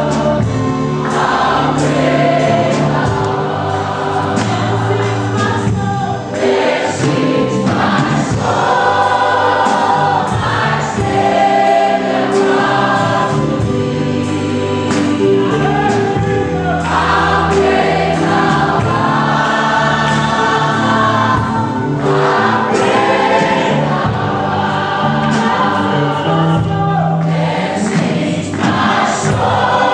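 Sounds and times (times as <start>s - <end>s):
choir singing gospel song: 0.0s - 29.9s
instrumental backing with beat: 0.0s - 29.9s.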